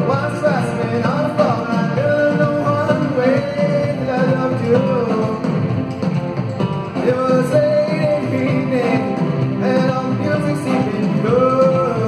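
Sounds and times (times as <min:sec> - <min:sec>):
drums: 0:00.0 - 0:12.0
electric guitars: 0:00.0 - 0:12.0
keyboard: 0:00.0 - 0:12.0.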